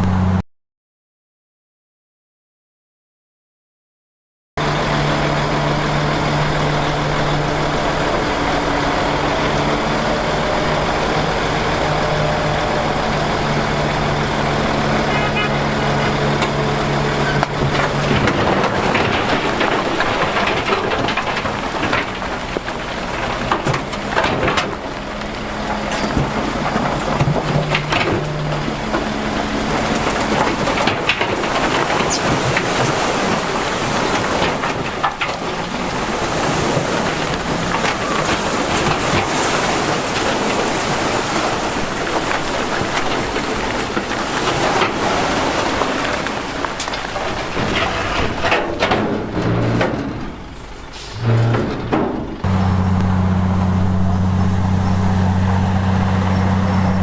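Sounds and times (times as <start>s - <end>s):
heavy diesel machinery engine: 0.0s - 0.4s, 4.6s - 57.0s
knocks and rattles: 6.4s - 50.6s, 51.3s - 53.2s.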